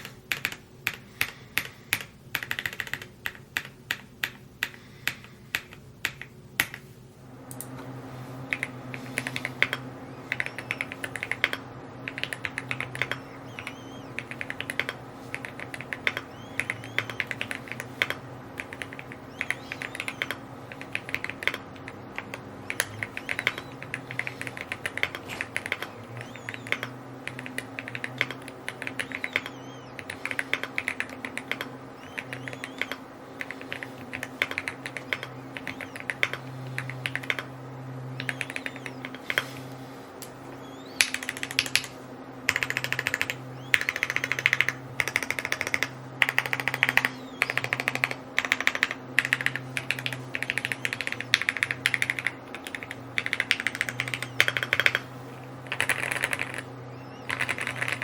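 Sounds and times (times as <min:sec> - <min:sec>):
mechanical keyboard typing: 0:00.0 - 0:06.8, 0:08.5 - 0:37.6, 0:38.2 - 0:39.6, 0:40.7 - 0:58.0
steady low hum: 0:00.0 - 0:58.0.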